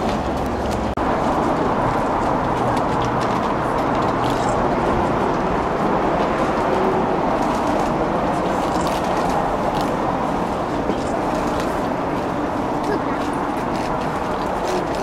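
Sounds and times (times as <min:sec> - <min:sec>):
train rolling on tracks: 0:00.0 - 0:15.0.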